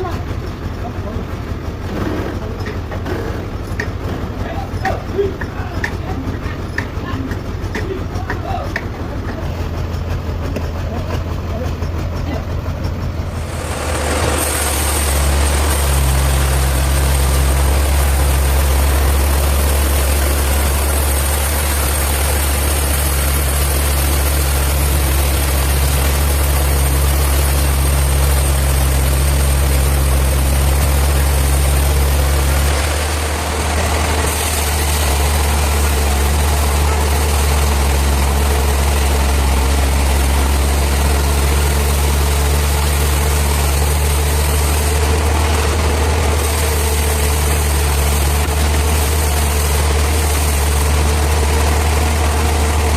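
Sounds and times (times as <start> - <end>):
sawmill saw cutting log: 1.8 - 12.3, 13.0 - 52.9.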